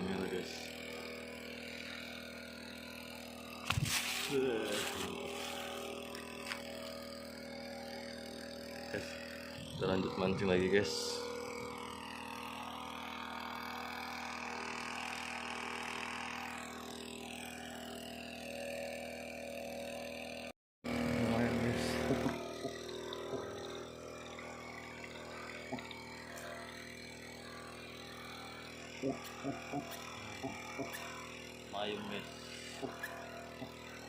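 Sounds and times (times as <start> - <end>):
small engine humming: 0.0 - 34.0.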